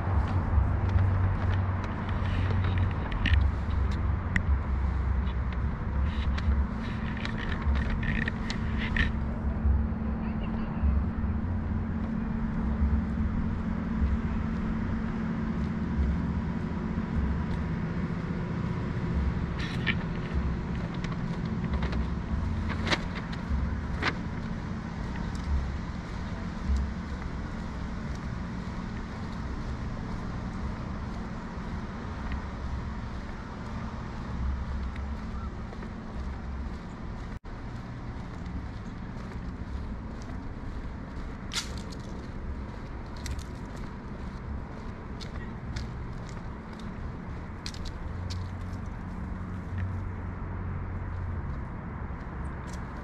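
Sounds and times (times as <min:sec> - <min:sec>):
constant low hum: 0:00.0 - 0:53.0
road traffic rumble: 0:00.0 - 0:53.0.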